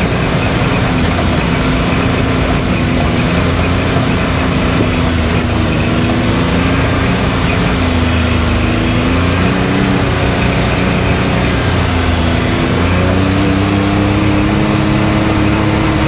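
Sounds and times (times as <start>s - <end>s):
drivetrain and terrain noise: 0.0s - 16.0s
engine revving: 0.0s - 16.0s.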